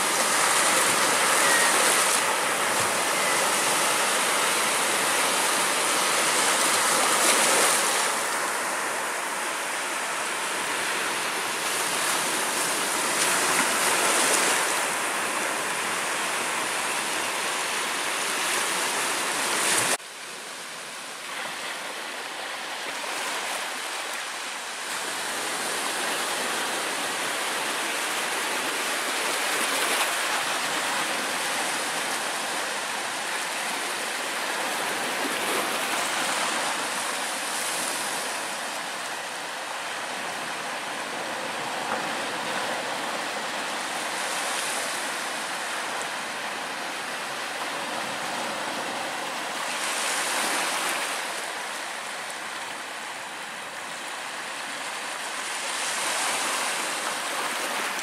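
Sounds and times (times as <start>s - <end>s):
surf washing onto shore: 0.0s - 58.0s.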